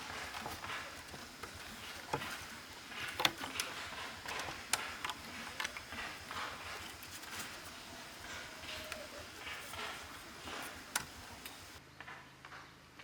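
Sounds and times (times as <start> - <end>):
faint rustling: 0.0 - 11.8
light clicks and knocks: 0.0 - 11.8.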